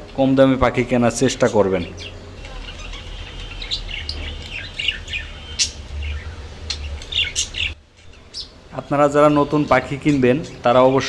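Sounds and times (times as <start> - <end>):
budgerigars chirping: 1.3 - 10.8.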